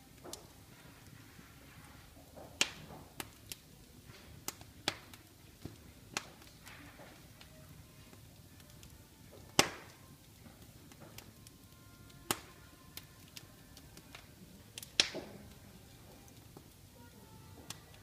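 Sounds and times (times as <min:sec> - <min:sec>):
soft rustle of flames: 0:00.0 - 0:18.0
wood fire crackling and popping: 0:00.0 - 0:18.0.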